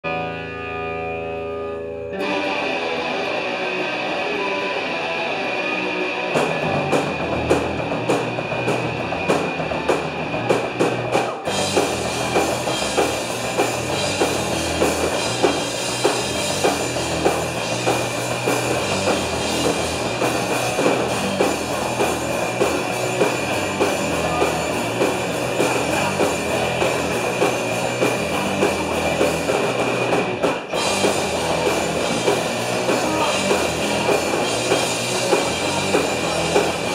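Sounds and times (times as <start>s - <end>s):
distorted electric guitar: 0.0s - 36.9s
punk band playing live: 0.0s - 36.9s
drum kit: 2.2s - 36.9s.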